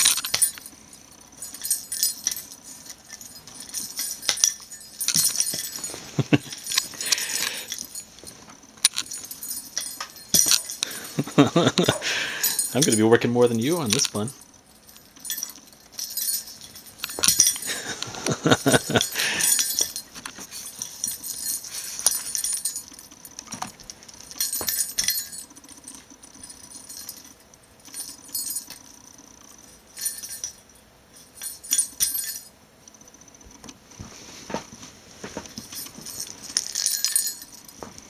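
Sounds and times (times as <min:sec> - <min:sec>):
bell toy jingling: 0:00.0 - 0:32.6, 0:35.6 - 0:37.8.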